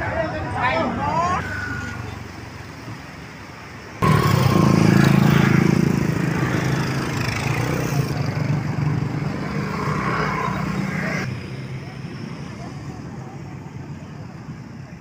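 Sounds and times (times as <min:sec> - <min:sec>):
traffic noise: 0:00.0 - 0:15.0
vehicle engine humming: 0:00.0 - 0:15.0.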